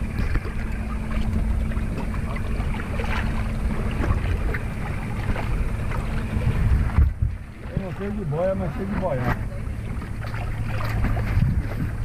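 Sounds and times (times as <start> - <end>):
outboard motor running: 0.0 - 12.0
water splashing along hull: 0.0 - 12.0.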